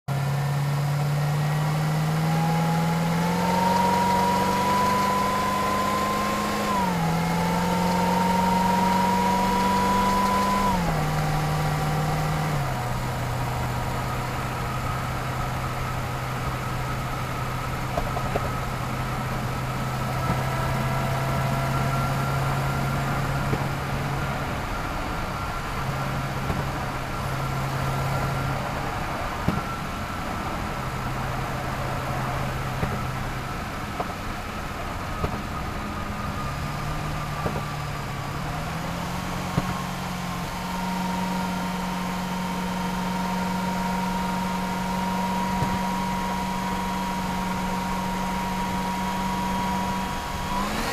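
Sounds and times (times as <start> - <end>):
car engine accelerating: 0.1 - 50.9
supercharger whine: 0.1 - 50.9.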